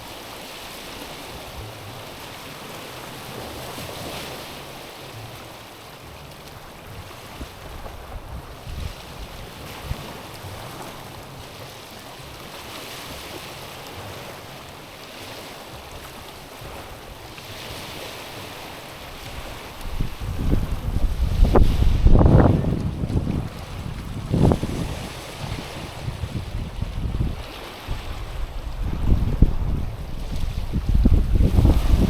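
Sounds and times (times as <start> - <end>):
small waves on stony shore: 0.0 - 32.0
wind rumble on microphone: 0.0 - 32.0.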